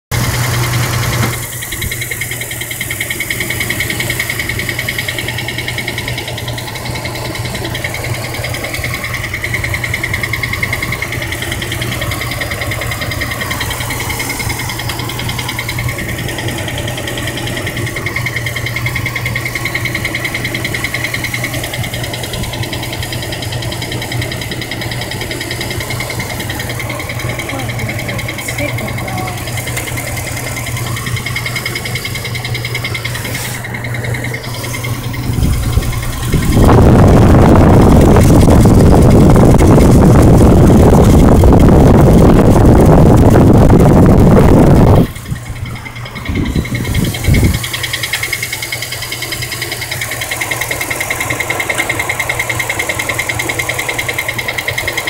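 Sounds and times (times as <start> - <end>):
car engine humming: 0.0 - 55.0
rapid even engine ticking: 0.0 - 55.0.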